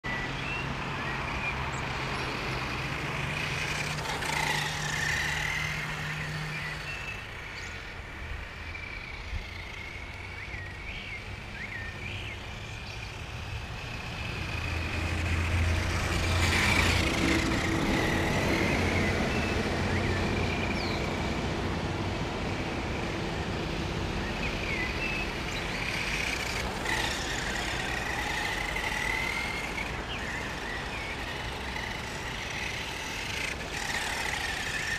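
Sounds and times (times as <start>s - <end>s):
rc truck electric motor whining: 0.1s - 34.9s.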